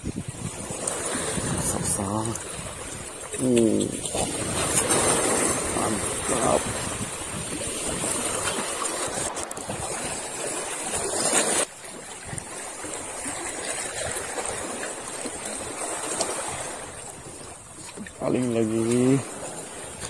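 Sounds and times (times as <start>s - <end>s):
sea water washing against rocks: 0.0s - 20.0s.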